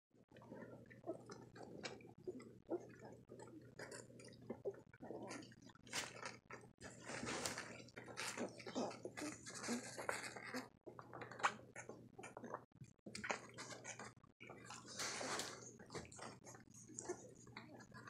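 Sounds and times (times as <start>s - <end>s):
wet mouthing sounds: 0.4s - 18.0s.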